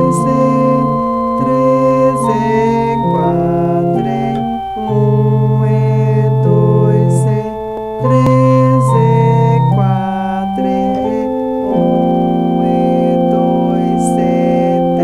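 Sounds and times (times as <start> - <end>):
electronic organ chords: 0.0 - 15.0.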